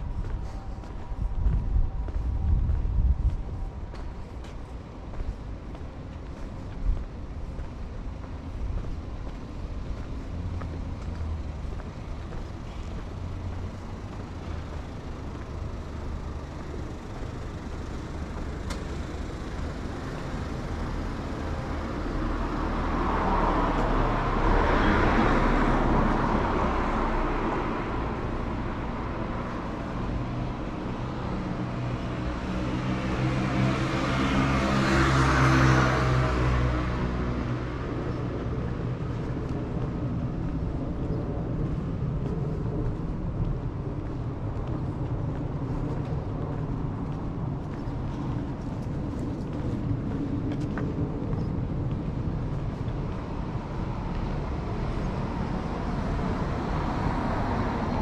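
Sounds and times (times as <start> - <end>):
low rumble of traffic: 0.0 - 58.0
vehicles passing close by: 0.0 - 58.0.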